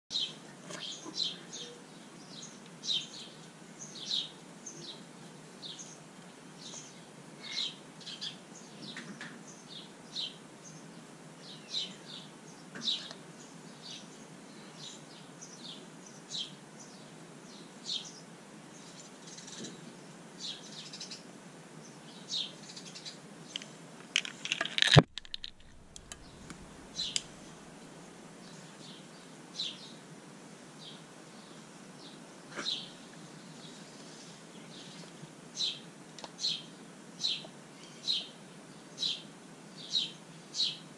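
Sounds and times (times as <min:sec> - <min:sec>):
small birds chirping: 0:00.1 - 0:24.4, 0:25.0 - 0:40.9
background hiss: 0:00.1 - 0:40.9.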